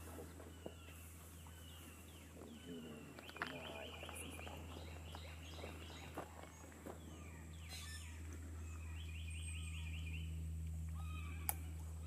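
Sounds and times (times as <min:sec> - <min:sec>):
birds chirping and calling: 0:00.0 - 0:12.0
low hum: 0:00.0 - 0:12.0.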